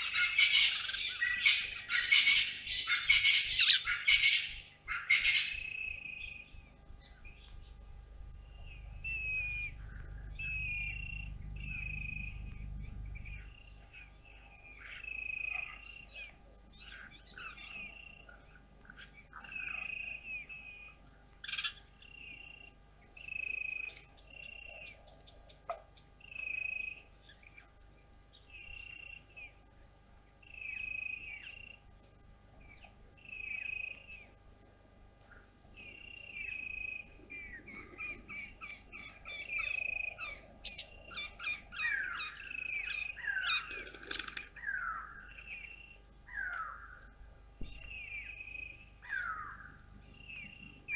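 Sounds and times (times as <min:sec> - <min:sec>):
birds chirping and trilling: 0:00.0 - 0:50.9.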